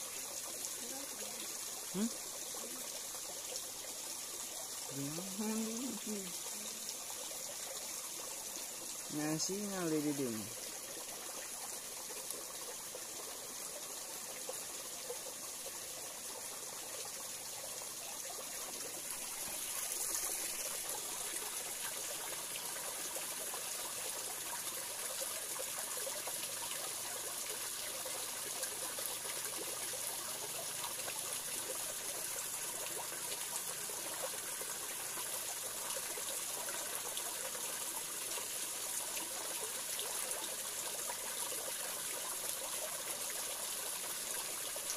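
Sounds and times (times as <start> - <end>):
water trickling over rocks: 0.0 - 44.9.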